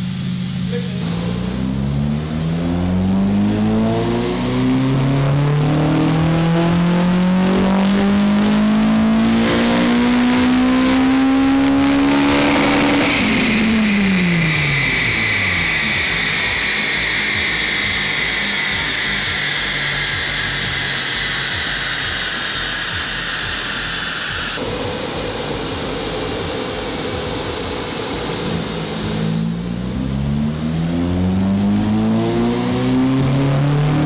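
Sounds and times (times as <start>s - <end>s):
car engine revving: 0.0s - 34.0s
high whine of rollers spinning: 0.0s - 34.0s.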